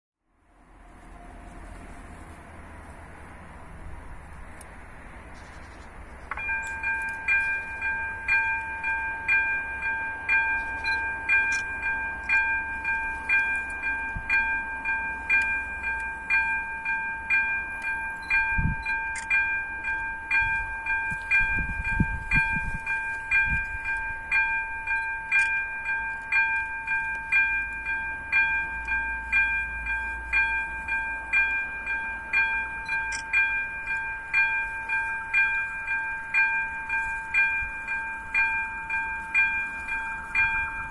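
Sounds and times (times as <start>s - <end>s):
level crossing bell ringing: 6.3s - 40.9s.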